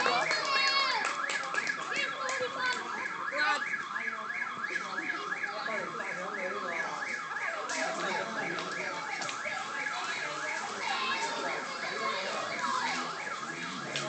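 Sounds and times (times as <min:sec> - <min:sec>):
car alarm warbling: 0:00.0 - 0:14.0.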